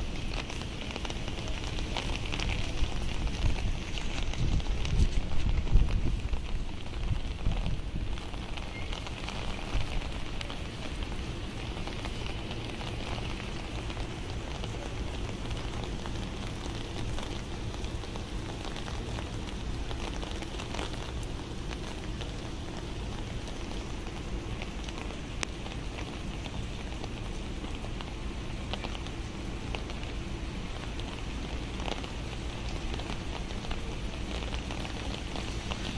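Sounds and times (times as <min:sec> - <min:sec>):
rain falling on street and cars: 0:00.0 - 0:35.9.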